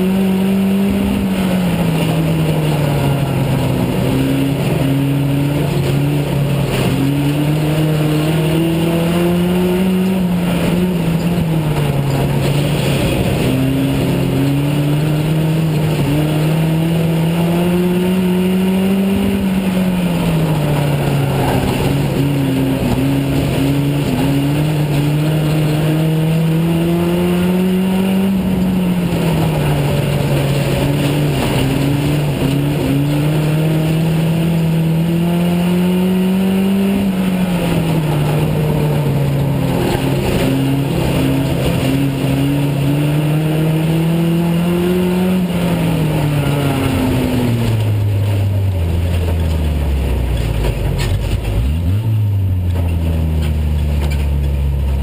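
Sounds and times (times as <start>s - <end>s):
race car engine under load: 0.0s - 55.0s.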